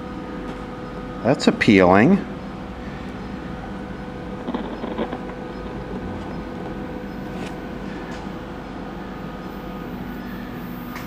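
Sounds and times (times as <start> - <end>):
faint steady tones: 0.0 - 11.0
television hum: 0.0 - 11.0.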